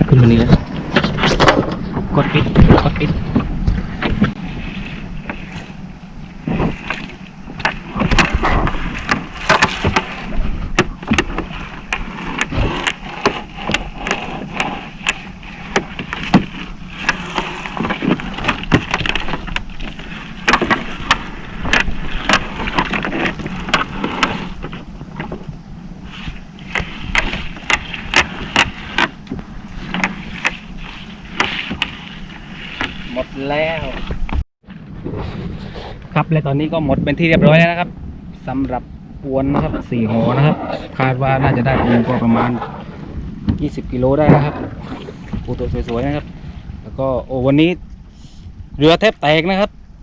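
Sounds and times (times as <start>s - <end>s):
boat engine humming: 0.0s - 34.9s, 36.8s - 50.0s.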